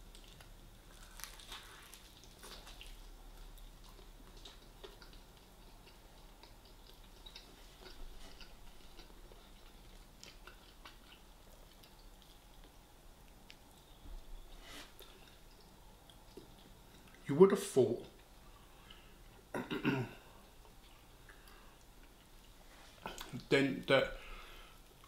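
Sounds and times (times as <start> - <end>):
person chewing: 0.0 - 17.2, 20.2 - 23.4.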